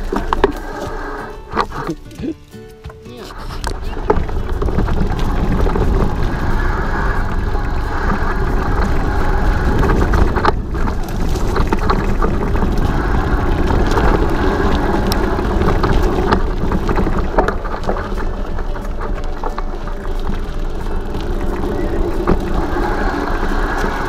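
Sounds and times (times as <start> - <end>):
bike clicks and rattles: 0.0 - 24.0
bike tyre noise on dirt: 0.0 - 24.0
wind rumble on microphone: 3.3 - 24.0.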